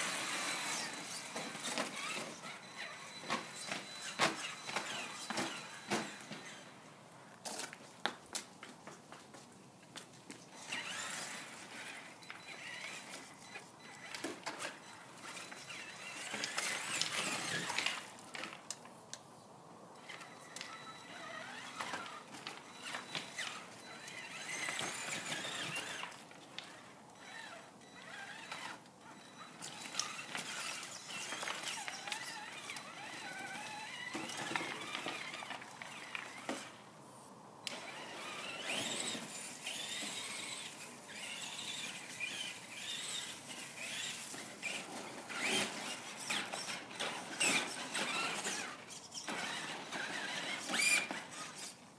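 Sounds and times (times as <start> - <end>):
rc truck motor whining: 0.0 - 6.8, 10.5 - 18.6, 20.0 - 36.8, 37.6 - 51.8
tyres on rock and gravel: 0.0 - 18.9, 20.0 - 36.9, 37.7 - 51.8.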